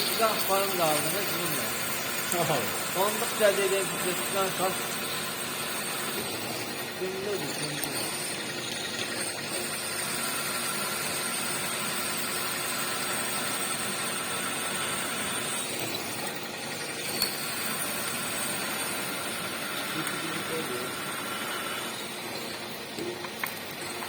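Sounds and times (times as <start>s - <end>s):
milling machine drilling: 0.0s - 24.0s.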